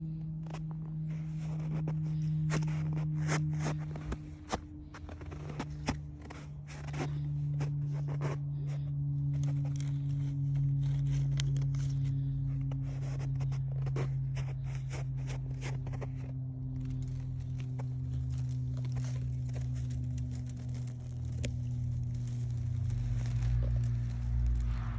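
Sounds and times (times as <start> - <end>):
steady low hum: 0.0 - 24.9
clicks and crackles: 0.1 - 24.9
rustling: 0.1 - 24.9.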